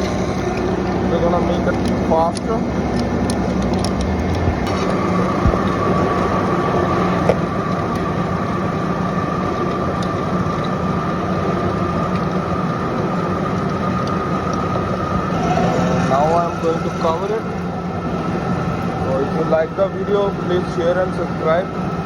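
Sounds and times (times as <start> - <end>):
paint mixer humming and whining: 0.0 - 22.0.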